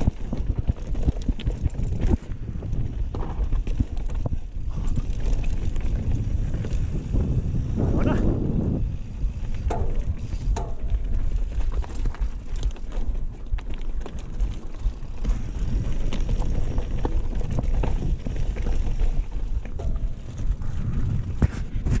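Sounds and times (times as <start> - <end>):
bike rattling clicks and knocks: 0.0 - 7.5, 9.2 - 21.8
bike tyres rolling over loose stones: 0.0 - 22.0
wind rumble on microphone: 0.0 - 22.0.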